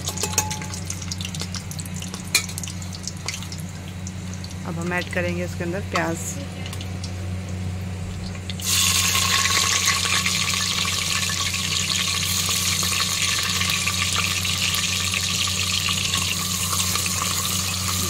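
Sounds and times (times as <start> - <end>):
onions sizzling in hot oil: 0.0 - 5.0, 8.2 - 18.0.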